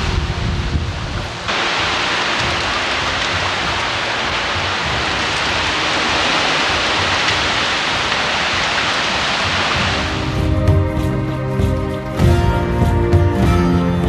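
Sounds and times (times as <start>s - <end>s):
heavy rain pouring: 0.0s - 14.0s
music: 0.0s - 14.0s.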